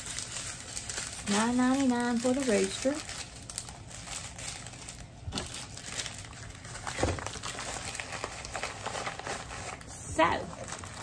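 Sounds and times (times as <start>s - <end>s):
plastic packaging crinkling: 0.0s - 11.0s
sharp plastic crackles: 0.0s - 11.0s.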